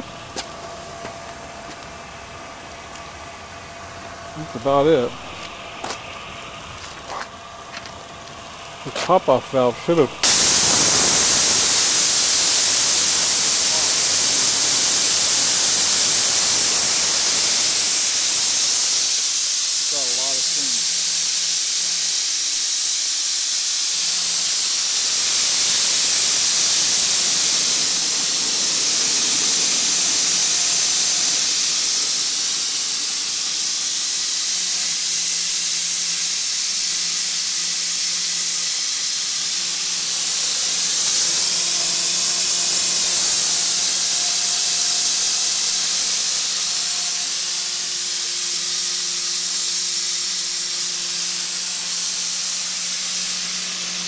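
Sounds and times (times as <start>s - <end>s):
steam valve hissing: 0.0s - 54.0s.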